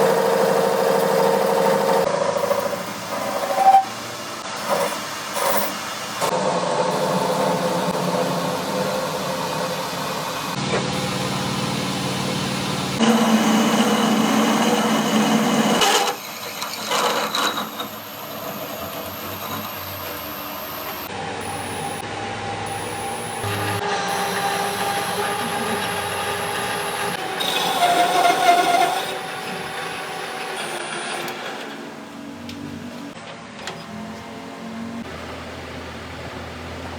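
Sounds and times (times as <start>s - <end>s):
workshop machinery humming: 0.0s - 36.9s.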